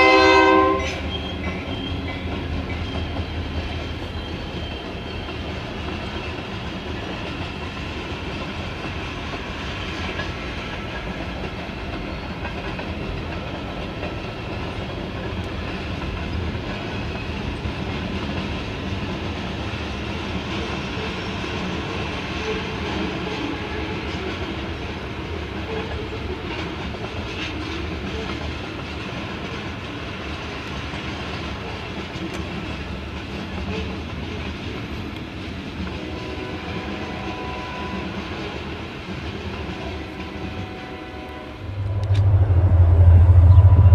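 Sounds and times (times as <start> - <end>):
train wheels rumbling on rail: 0.0 - 43.9
clickety-clack over rail joints: 0.2 - 42.4.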